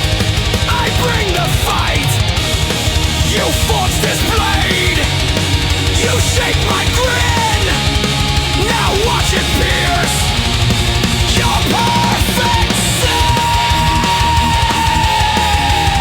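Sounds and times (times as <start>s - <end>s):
bass guitar: 0.0s - 16.0s
distorted electric guitar lead: 0.0s - 16.0s
driving drums: 0.0s - 16.0s.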